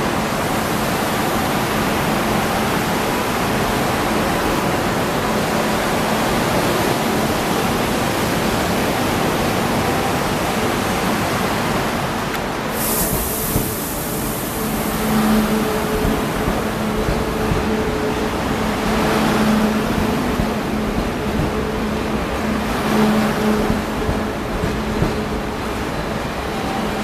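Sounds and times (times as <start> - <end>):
train rushing past: 0.0 - 27.0.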